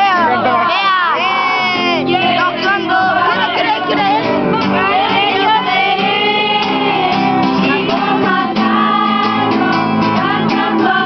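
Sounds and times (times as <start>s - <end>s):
group of voices singing: 0.0s - 11.0s
music: 0.0s - 11.0s.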